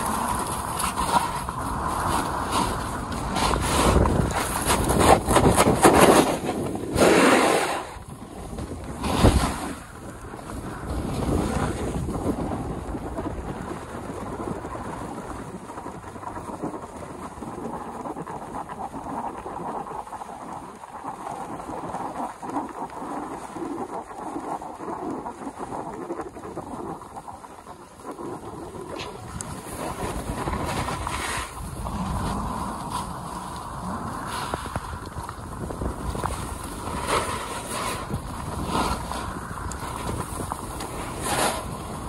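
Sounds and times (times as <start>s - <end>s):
skis running over snow: 0.0s - 42.0s
wind buffeting microphone: 0.0s - 42.0s.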